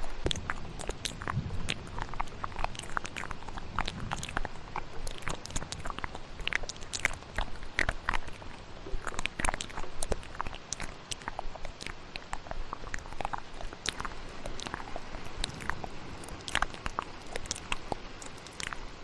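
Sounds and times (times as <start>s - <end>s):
rainstorm hiss: 0.0s - 19.0s
wet mouth clicks and smacks: 0.0s - 19.0s.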